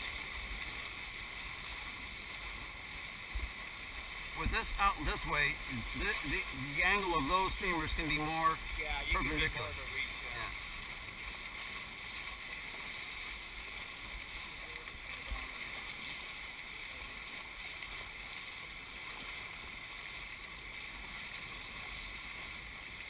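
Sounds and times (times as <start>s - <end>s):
hull rushing through choppy water: 0.0s - 23.0s.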